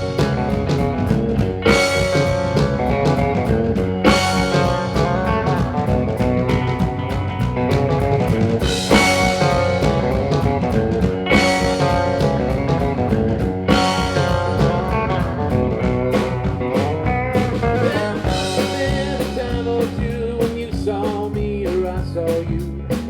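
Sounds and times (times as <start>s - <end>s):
lead guitar bending notes: 0.0s - 19.7s
bass guitar: 0.0s - 23.0s
drum kit steady beat: 0.0s - 23.0s
electric guitar: 0.0s - 23.0s.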